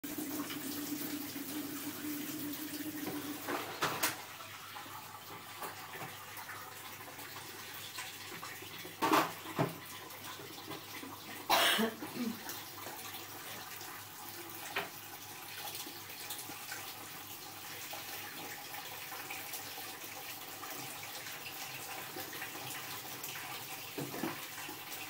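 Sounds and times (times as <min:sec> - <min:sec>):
water running from a tap: 0:00.0 - 0:25.0.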